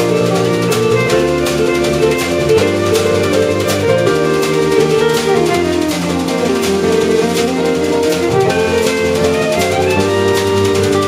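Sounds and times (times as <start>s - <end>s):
electric guitar lead: 0.0s - 11.0s
live jazz band playing: 0.0s - 11.0s.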